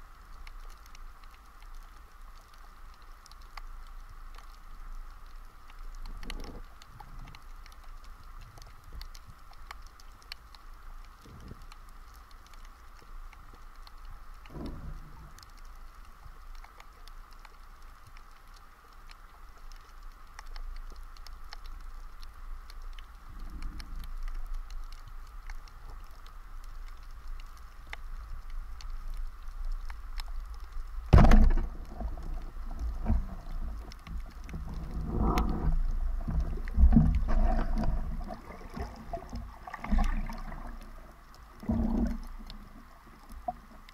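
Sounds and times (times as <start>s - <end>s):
underwater crackle of clicks: 0.0s - 43.9s.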